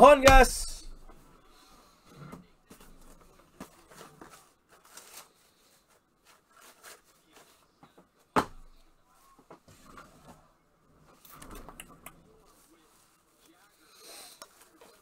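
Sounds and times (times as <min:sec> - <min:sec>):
faint rustling and handling: 0:01.0 - 0:11.6, 0:12.3 - 0:15.0.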